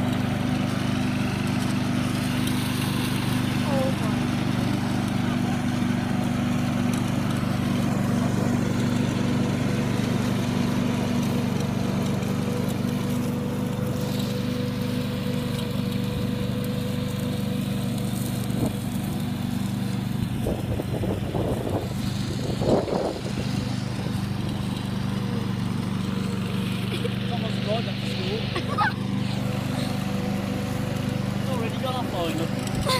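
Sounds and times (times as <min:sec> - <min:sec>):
lawn mower engine running: 0:00.0 - 0:32.9.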